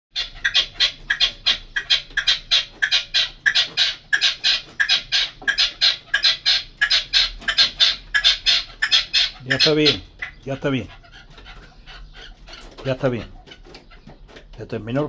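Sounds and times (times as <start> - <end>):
partridge harsh clucking calls: 0.1 - 15.0.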